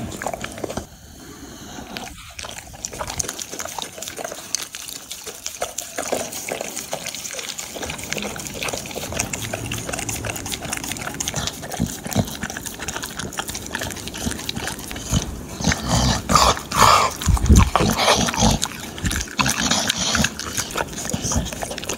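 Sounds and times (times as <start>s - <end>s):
dog licking and chewing: 0.0s - 21.9s.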